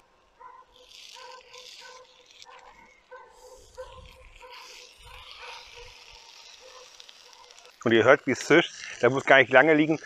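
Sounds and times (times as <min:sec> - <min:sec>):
food sizzling on grill: 0:00.7 - 0:10.0.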